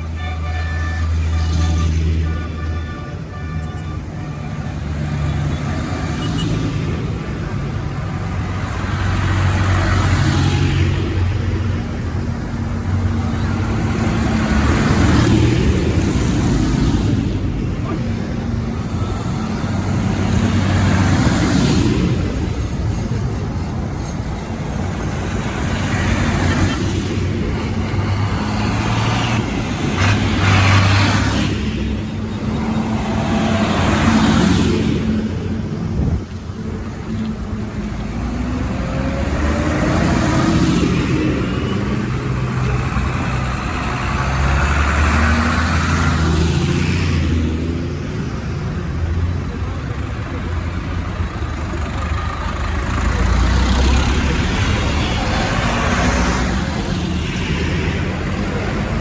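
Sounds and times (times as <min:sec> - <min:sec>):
tractor engine passing: 0:08.0 - 0:47.3, 0:48.0 - 0:59.0.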